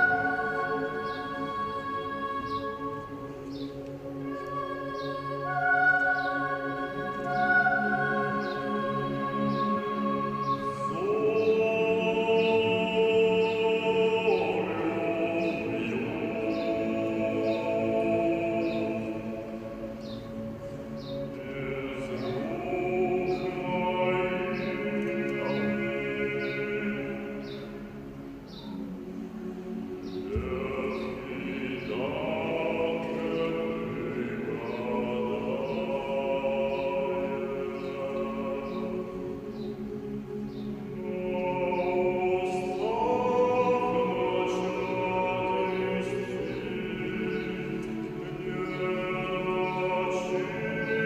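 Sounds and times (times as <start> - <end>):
choir singing sustained chords: 0.0 - 51.0.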